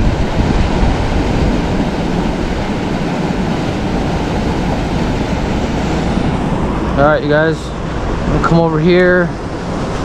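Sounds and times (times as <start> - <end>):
river water rushing: 0.0 - 10.0
wind buffeting microphone: 0.0 - 10.0.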